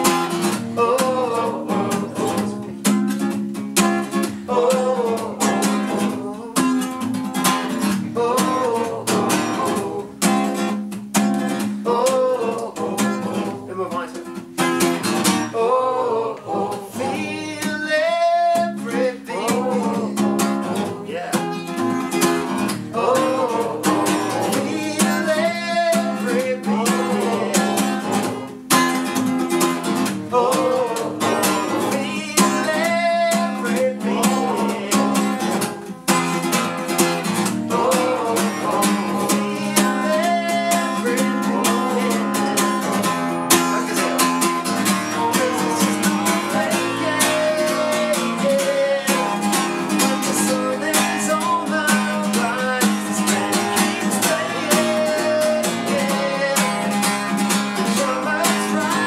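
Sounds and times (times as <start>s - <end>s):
man singing: 0.0s - 3.2s, 4.0s - 10.8s, 11.5s - 14.3s, 15.3s - 29.0s, 29.9s - 59.0s
acoustic guitar strumming: 0.0s - 59.0s.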